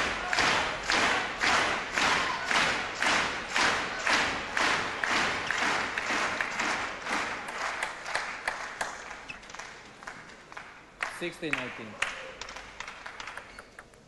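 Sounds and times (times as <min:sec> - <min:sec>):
crowd clapping: 0:00.0 - 0:14.0.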